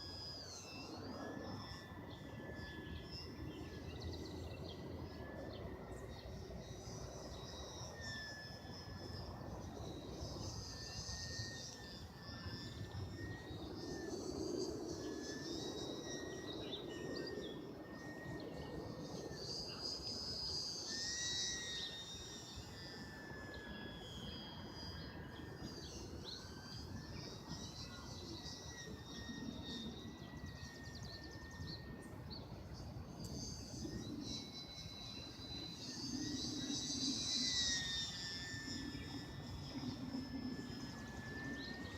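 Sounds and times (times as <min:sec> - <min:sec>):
model plane motor whine: 0:00.0 - 0:41.9.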